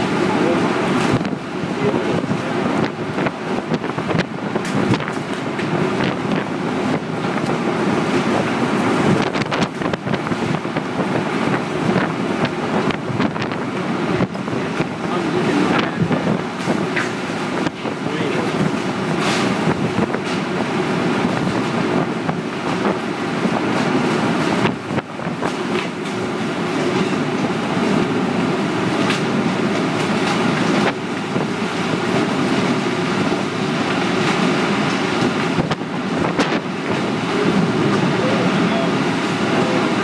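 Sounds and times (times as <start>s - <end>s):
tornado wind rushing: 0.0s - 40.0s.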